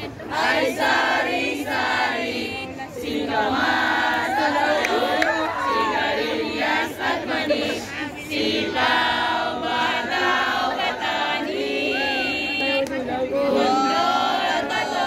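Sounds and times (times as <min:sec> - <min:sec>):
group singing a chant: 0:00.0 - 0:15.0.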